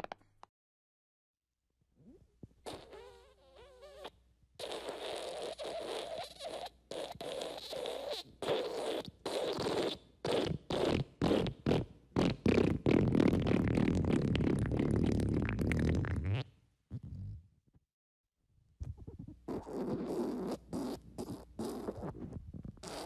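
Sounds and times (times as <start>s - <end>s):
squeaky fart: 2.0s - 17.5s, 18.8s - 23.0s
wet sputtering fart: 2.6s - 17.4s, 18.8s - 23.0s.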